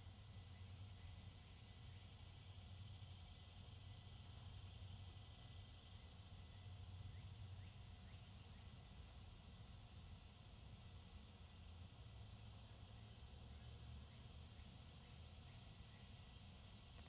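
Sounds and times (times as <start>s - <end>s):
insects chirring in trees: 0.2s - 17.0s.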